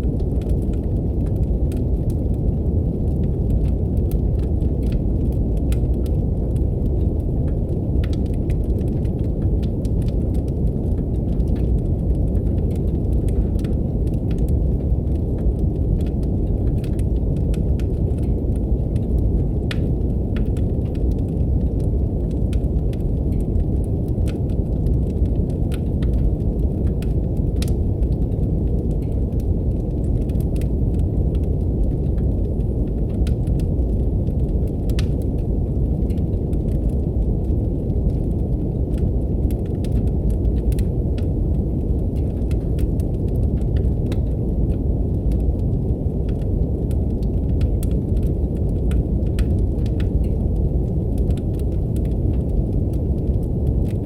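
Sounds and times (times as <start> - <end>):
deep brown noise: 0.0 - 54.0
wood fire crackling: 0.0 - 54.0.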